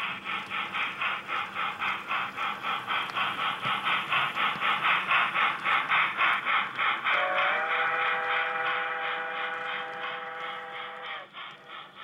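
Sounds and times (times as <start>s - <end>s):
model steam locomotive chuffing: 0.0s - 12.0s.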